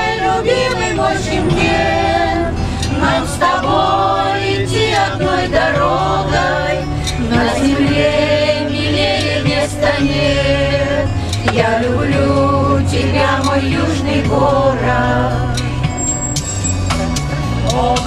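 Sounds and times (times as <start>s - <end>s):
choir singing: 0.0s - 15.9s, 17.6s - 18.0s
held accompaniment notes: 0.0s - 18.0s.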